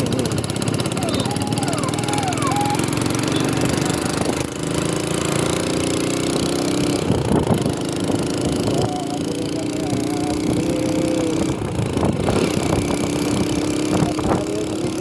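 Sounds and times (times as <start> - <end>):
road and wind noise: 0.0 - 15.0
small motorcycle engine: 0.0 - 15.0.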